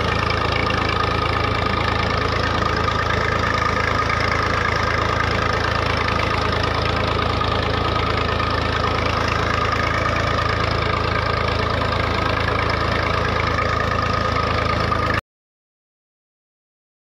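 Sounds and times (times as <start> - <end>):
tractor diesel engine running: 0.0 - 15.2.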